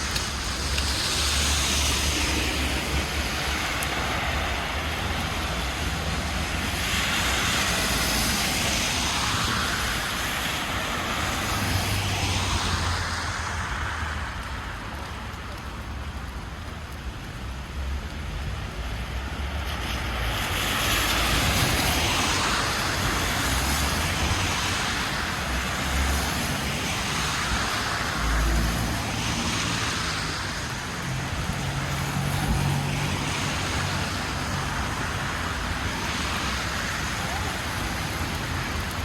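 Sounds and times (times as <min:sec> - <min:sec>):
tyres hissing on wet road: 0:00.0 - 0:39.0.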